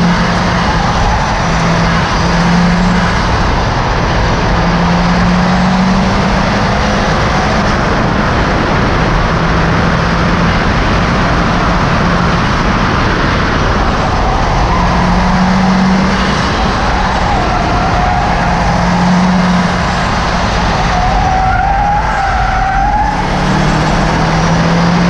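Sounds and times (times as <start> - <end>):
car engine running hard: 0.0 - 25.0
tyre road and wind noise: 0.0 - 25.0.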